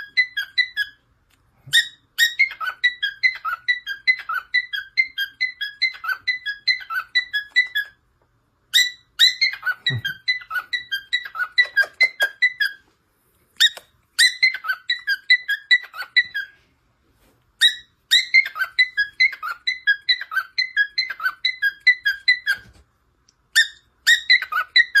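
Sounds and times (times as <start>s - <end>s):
bird chirping rapidly: 0.0s - 1.0s, 1.7s - 8.0s, 8.7s - 12.8s, 13.6s - 16.6s, 17.6s - 22.7s, 23.5s - 25.0s.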